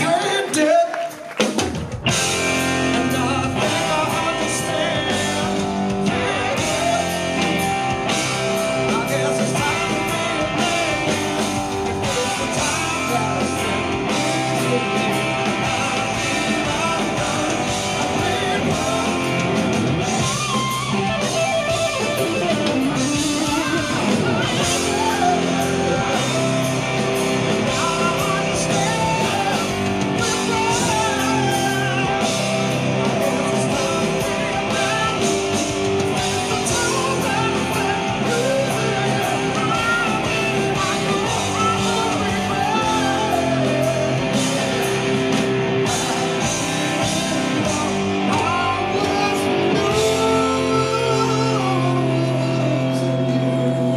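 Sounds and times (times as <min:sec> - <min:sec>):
person singing lead vocal: 0:00.0 - 0:01.4, 0:02.1 - 0:53.9
bass guitar: 0:00.0 - 0:53.9
drums: 0:00.0 - 0:53.9
electric guitar: 0:00.0 - 0:53.9.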